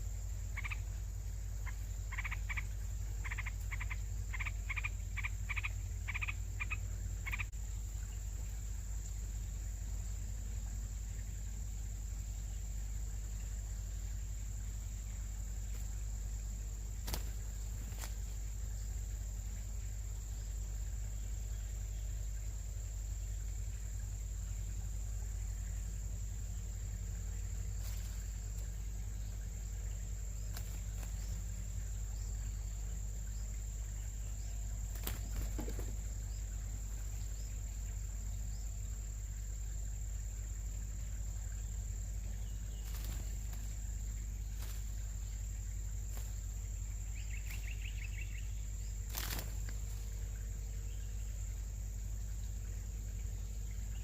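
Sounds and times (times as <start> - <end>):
constant low rumble: 0.0 - 54.0
high-pitched insect drone: 0.0 - 54.0.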